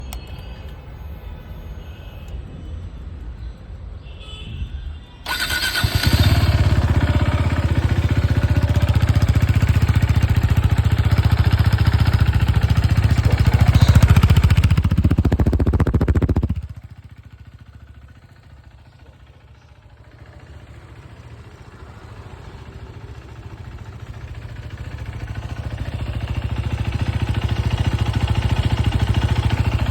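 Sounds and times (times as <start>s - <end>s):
motorcycle engine starting and running: 5.3s - 29.9s.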